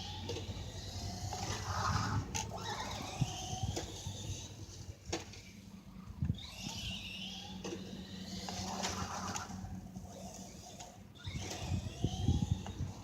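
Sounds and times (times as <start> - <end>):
rc car motor whining: 0.0 - 13.0.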